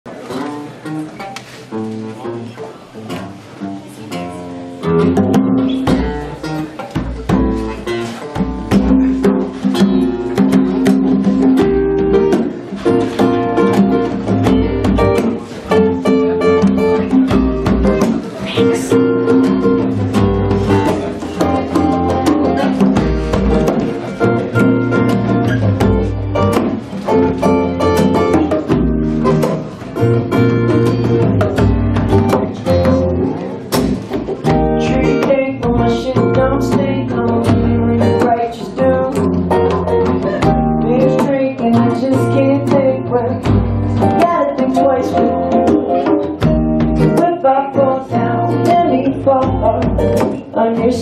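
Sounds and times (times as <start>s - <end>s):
acoustic guitars plucking: 0.1s - 51.0s.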